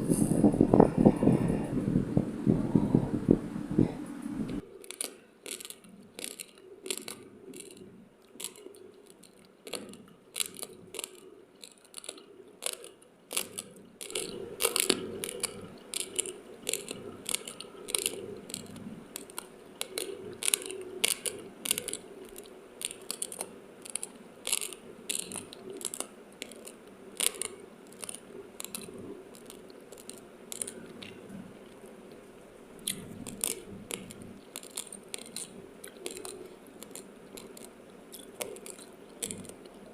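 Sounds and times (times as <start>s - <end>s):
chewing crunchy rice grains: 4.7s - 39.9s.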